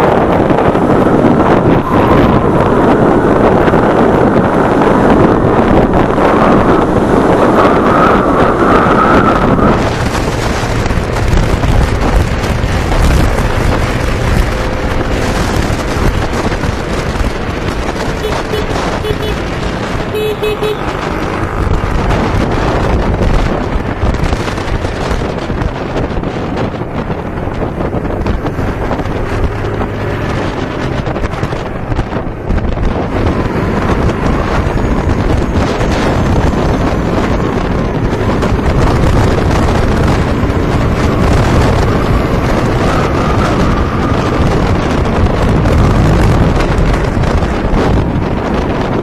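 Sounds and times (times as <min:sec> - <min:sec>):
wind noise on microphone: 0:00.0 - 0:49.0.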